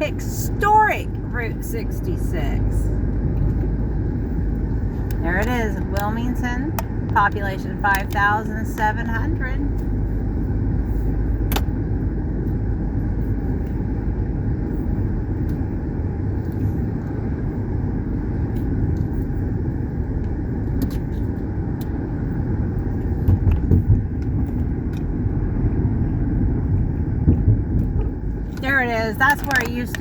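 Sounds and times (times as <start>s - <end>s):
car cabin engine and tyre rumble: 0.0s - 30.0s.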